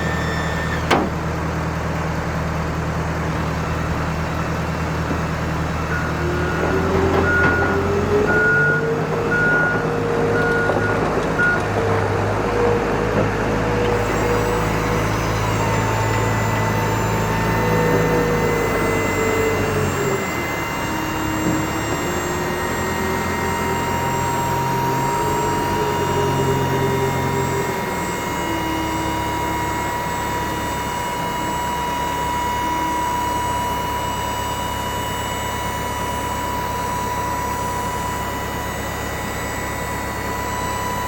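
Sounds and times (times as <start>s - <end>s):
truck engine running: 0.0s - 41.0s
reversing beeper beeping: 5.7s - 11.6s, 14.0s - 41.0s.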